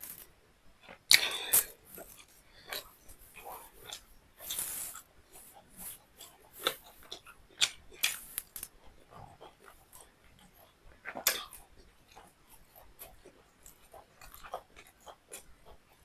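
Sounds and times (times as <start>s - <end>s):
person chewing food: 0.1s - 16.0s
mouth clicks and smacks: 0.9s - 2.9s, 3.8s - 16.0s.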